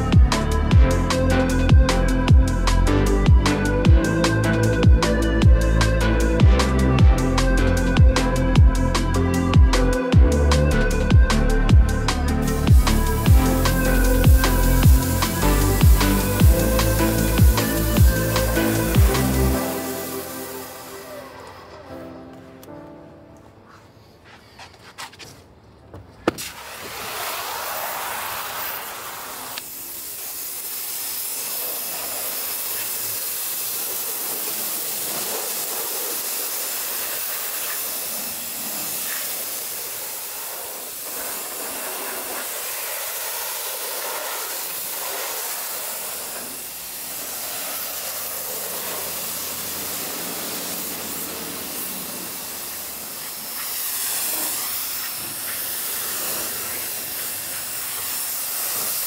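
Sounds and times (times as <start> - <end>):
pressure washer spraying: 0.0 - 22.1, 26.3 - 59.0.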